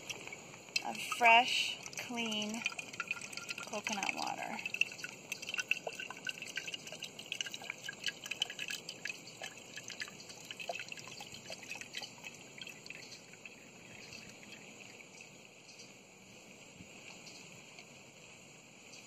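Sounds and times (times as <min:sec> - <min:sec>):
drips and splashes: 0:00.0 - 0:15.9
water trickling into a glass: 0:00.0 - 0:15.9.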